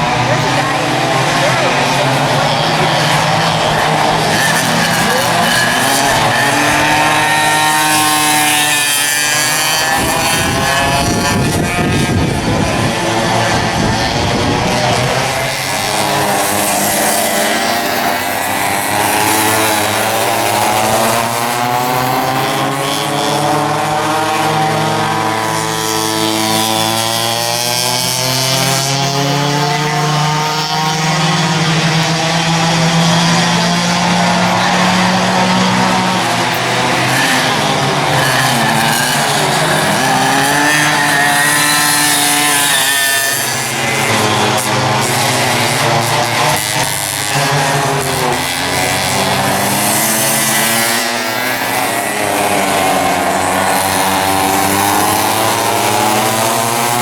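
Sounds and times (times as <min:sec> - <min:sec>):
go-kart engines racing: 0:00.0 - 0:57.0.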